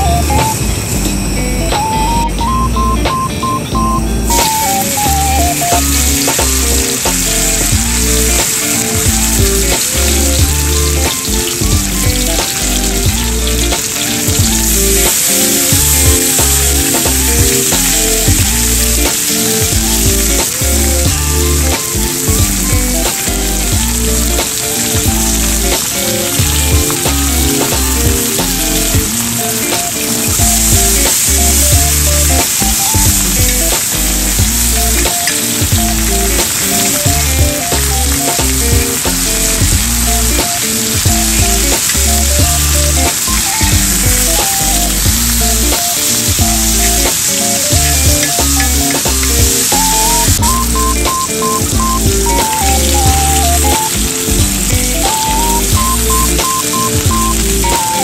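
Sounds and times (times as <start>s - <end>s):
background music with bass line: 0.0s - 58.0s
food sizzling in a frying pan: 4.2s - 58.0s.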